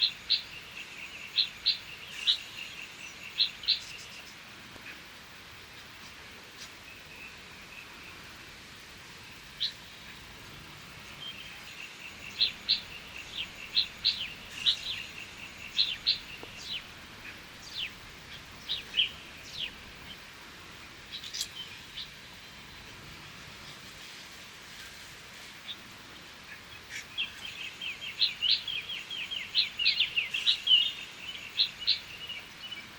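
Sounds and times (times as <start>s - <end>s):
bird chirping: 0.0s - 5.1s, 9.3s - 24.1s, 25.6s - 32.9s.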